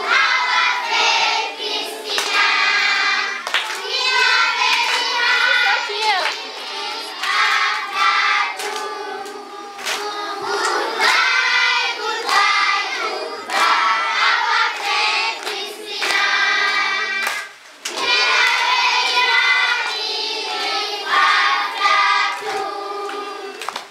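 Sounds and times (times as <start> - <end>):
children singing together: 0.0 - 23.9
hands clapping: 2.0 - 11.4, 12.1 - 23.9.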